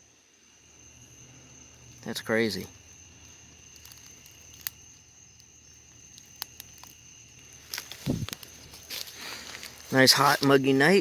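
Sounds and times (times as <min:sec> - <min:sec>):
night insects droning: 0:00.0 - 0:11.0.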